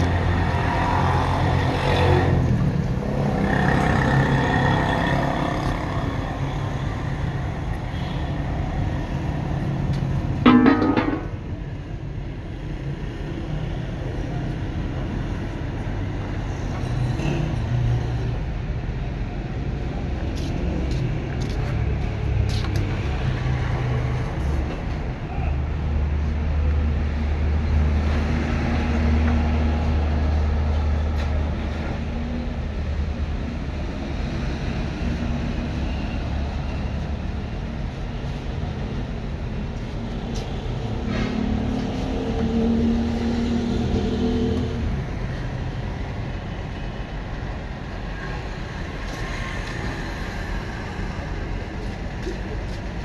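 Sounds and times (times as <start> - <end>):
roadside traffic: 0.0 - 53.0
vehicle engine humming: 0.0 - 53.0.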